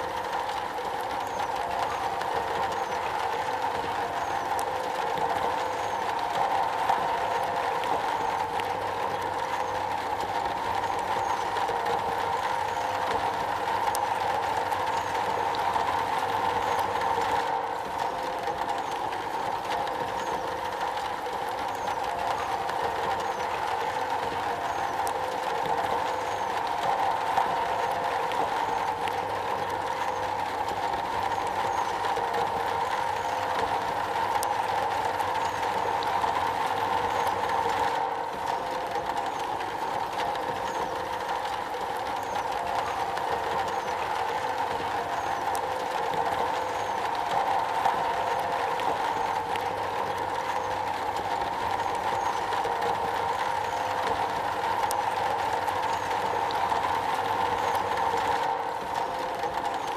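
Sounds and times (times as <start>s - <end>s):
rain on a metal roof: 0.0s - 59.9s.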